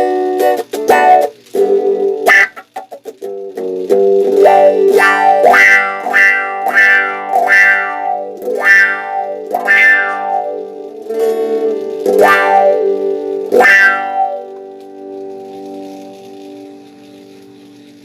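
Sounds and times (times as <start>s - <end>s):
electric guitar chords with auto-wah: 0.0s - 18.0s.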